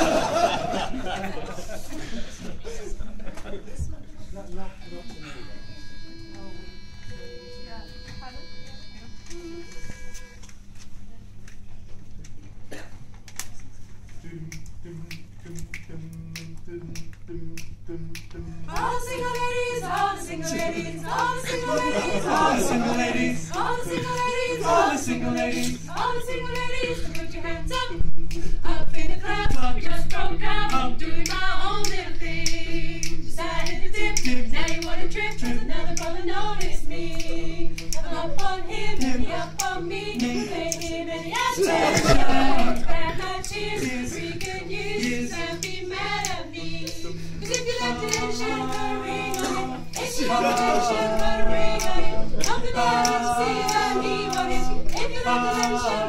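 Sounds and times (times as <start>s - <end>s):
group singing a cappella: 0.0s - 3.3s, 14.1s - 56.0s.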